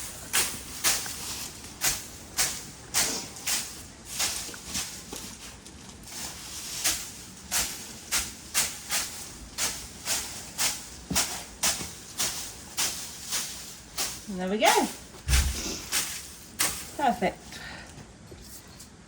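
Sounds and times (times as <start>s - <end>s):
bedding rustling swishes: 0.0s - 17.5s.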